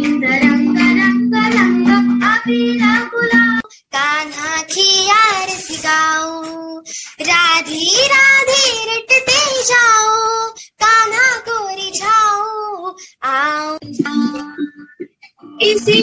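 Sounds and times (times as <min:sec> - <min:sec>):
girl singing unaccompanied solo: 0:00.0 - 0:14.8, 0:15.4 - 0:16.0
girl singing: 0:00.0 - 0:16.0.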